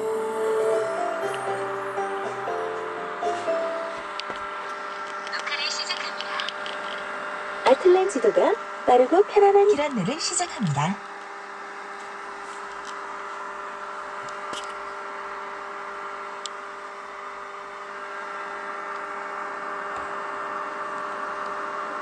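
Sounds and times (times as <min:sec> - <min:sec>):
air purifier fan whirring: 0:00.0 - 0:22.0.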